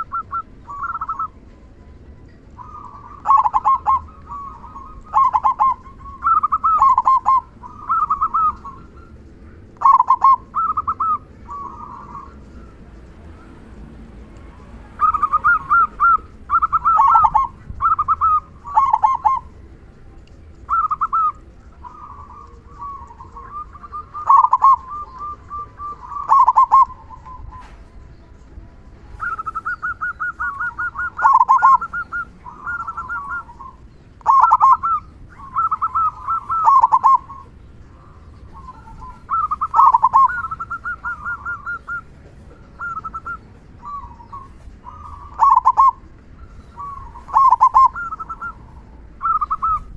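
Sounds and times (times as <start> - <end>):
dove cooing: 0.0 - 1.8, 2.5 - 28.4, 29.0 - 49.9.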